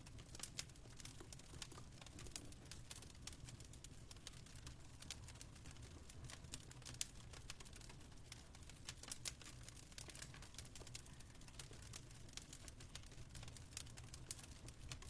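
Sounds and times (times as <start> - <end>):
wood fire crackling: 0.0 - 15.0
fire pops and snaps: 0.1 - 15.0.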